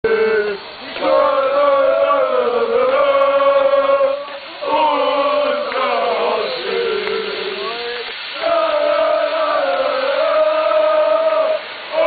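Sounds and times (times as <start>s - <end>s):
football supporters chanting: 0.0s - 12.0s.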